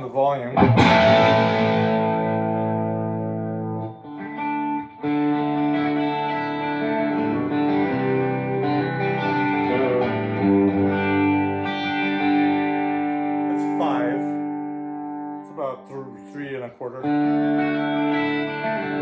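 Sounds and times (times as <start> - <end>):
electric guitar chords and notes: 0.0 - 19.0.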